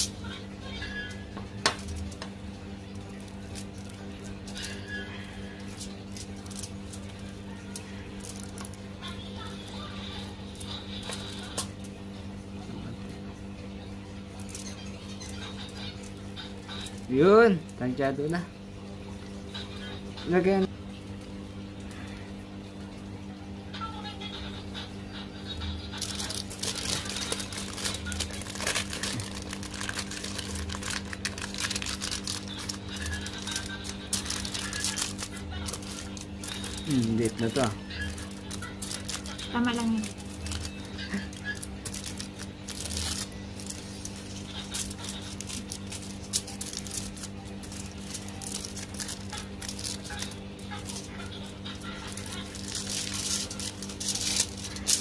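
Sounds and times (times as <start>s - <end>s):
aluminium foil crinkling: 0.0s - 12.0s, 14.3s - 18.2s, 25.5s - 55.0s
low background hum: 0.0s - 55.0s.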